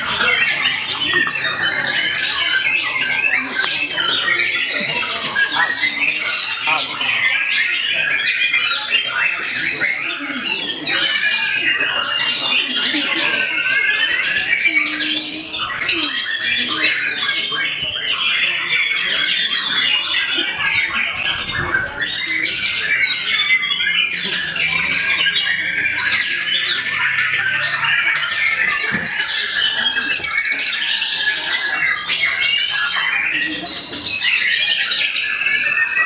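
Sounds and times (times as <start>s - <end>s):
many songbirds singing: 0.0s - 36.0s.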